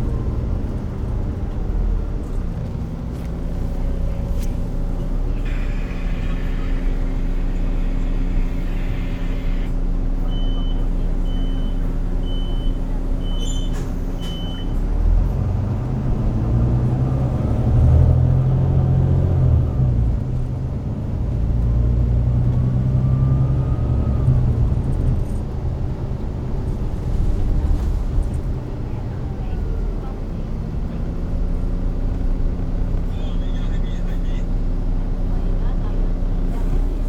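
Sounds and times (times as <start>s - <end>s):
bus diesel engine: 0.0s - 37.0s.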